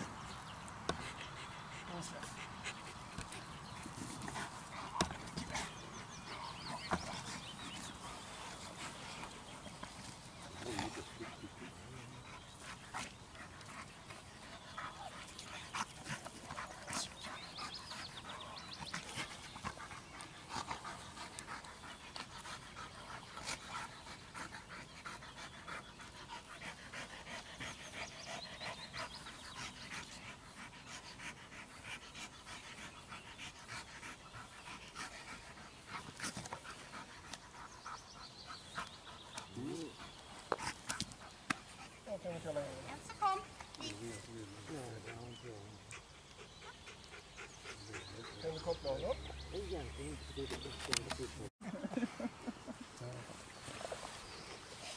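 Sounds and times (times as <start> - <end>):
dog panting: 0.0 - 53.3.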